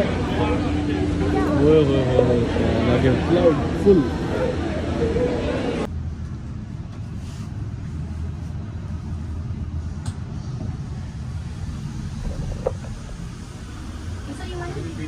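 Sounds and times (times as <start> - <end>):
cable car gondola rumble: 0.0 - 15.0.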